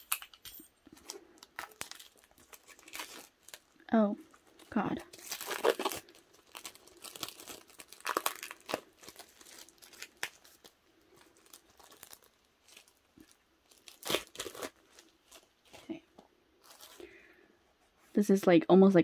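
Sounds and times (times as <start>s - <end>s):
plastic packaging crinkling and tearing: 0.9s - 16.0s, 16.6s - 17.2s.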